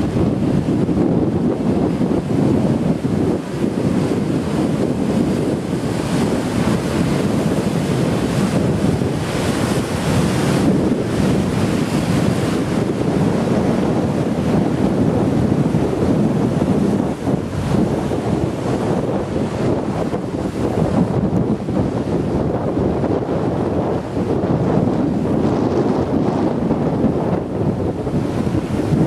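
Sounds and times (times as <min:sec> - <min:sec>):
surf crashing against sea wall: 0:00.0 - 0:29.0
wind buffeting microphone: 0:00.0 - 0:29.0.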